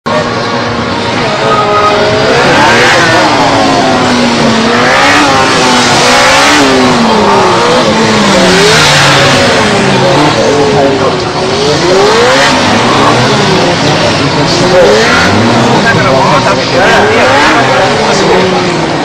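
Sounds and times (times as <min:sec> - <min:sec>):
motorbike engine revving: 0:00.1 - 0:19.0
steady rushing noise: 0:00.1 - 0:19.0.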